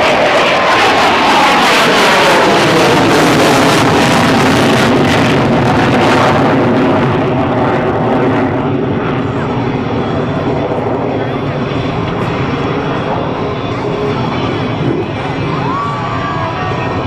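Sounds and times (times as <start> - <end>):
fighter jet roaring past: 0.0 - 17.0.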